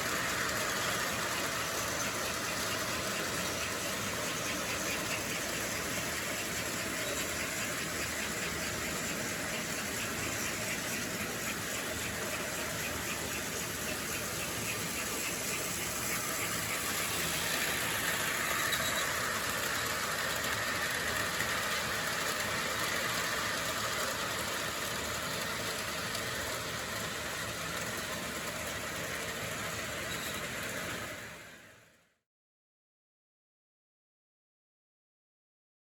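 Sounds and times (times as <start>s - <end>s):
wheel and rail noise: 0.0s - 32.0s
model train motor hum: 0.0s - 32.1s.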